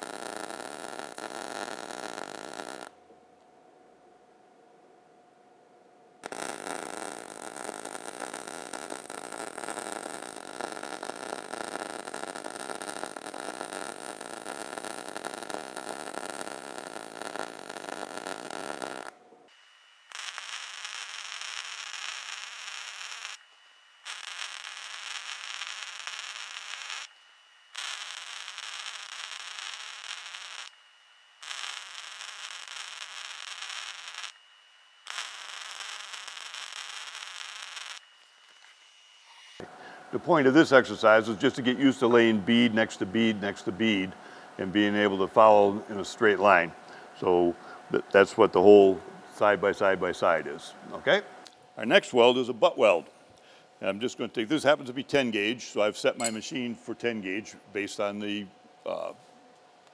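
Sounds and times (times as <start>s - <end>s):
welding arc buzzing: 0.0s - 3.0s, 6.2s - 53.1s.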